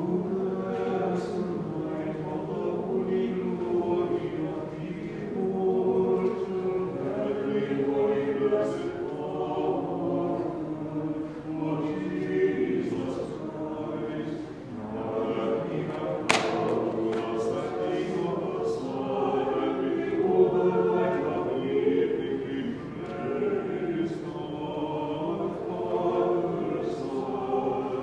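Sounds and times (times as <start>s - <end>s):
choir chanting a cappella: 0.0s - 28.0s.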